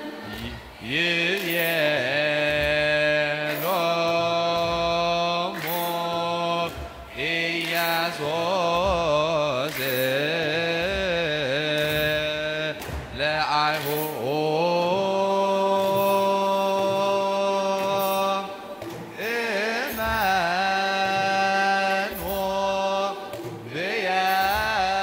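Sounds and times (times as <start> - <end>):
choir chanting a hymn: 0.0 - 25.0.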